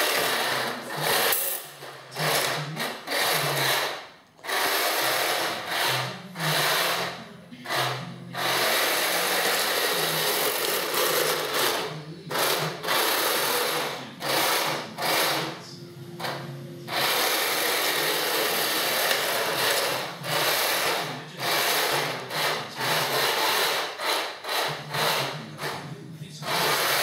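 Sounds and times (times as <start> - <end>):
toy tank motors whirring: 0.0 - 15.6, 16.2 - 27.0.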